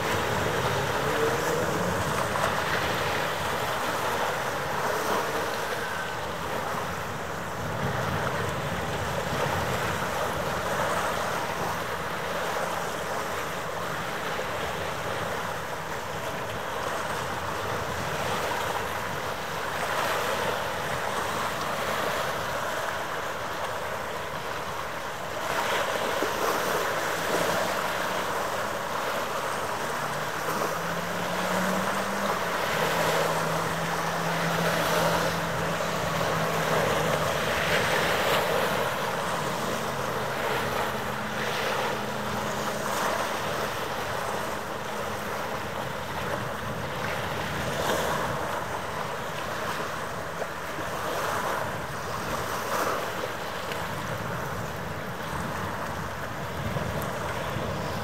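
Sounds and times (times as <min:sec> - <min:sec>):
wind buffeting microphone: 0:00.0 - 0:23.2, 0:25.3 - 0:58.0
harbour water washing: 0:00.0 - 0:58.0
low engine hum: 0:00.0 - 0:58.0.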